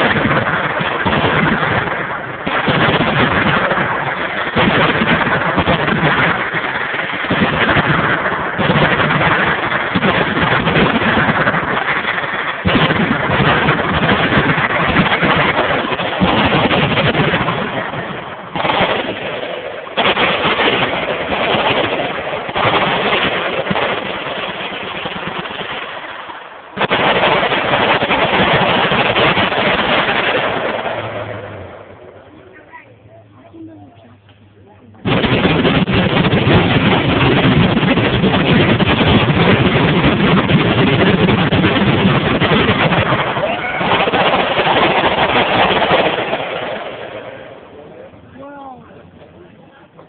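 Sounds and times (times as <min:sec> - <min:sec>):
machine gun fire: 0:00.0 - 0:26.0, 0:26.8 - 0:31.9, 0:35.0 - 0:47.4.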